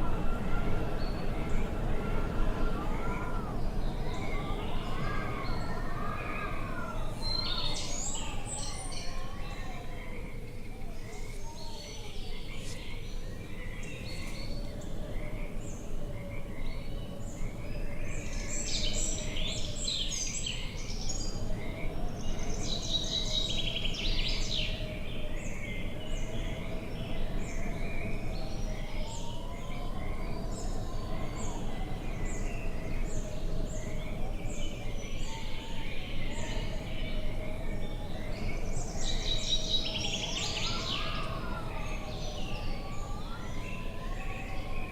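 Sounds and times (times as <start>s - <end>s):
low wind rumble: 0.0s - 44.9s
small birds chirping and trilling: 0.0s - 44.9s.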